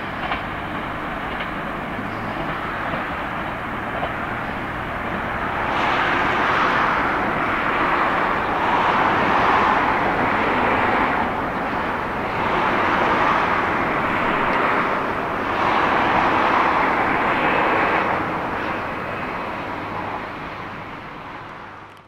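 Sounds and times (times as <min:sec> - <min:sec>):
electric train running past: 0:00.0 - 0:21.9.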